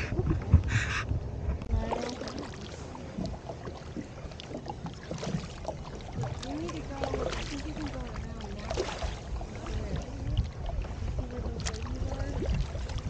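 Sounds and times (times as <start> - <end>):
paddles dipping and dripping: 0.0 - 13.0
steady low rumble: 0.0 - 13.0
water lapping along hull: 0.0 - 13.0
sharp water splashes: 1.8 - 13.0.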